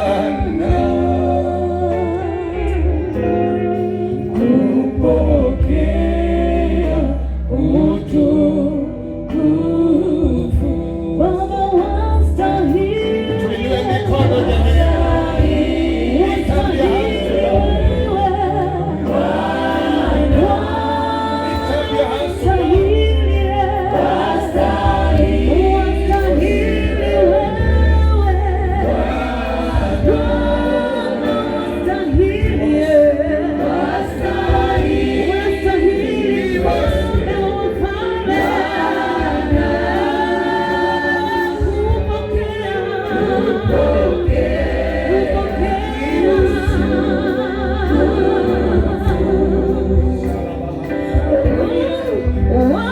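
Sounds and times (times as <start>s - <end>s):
deep sustained bass: 0.0s - 52.9s
group singing gospel song: 0.0s - 52.9s.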